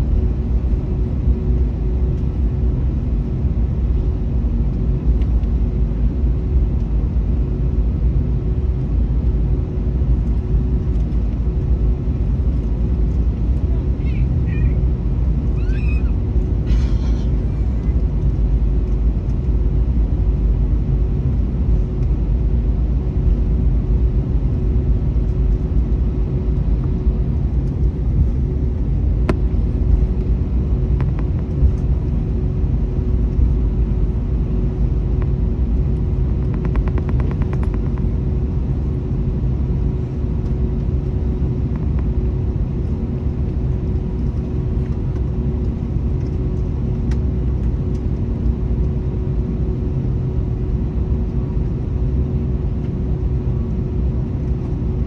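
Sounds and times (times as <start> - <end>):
airplane cabin rumble: 0.0 - 55.0
constant hum: 0.0 - 55.0.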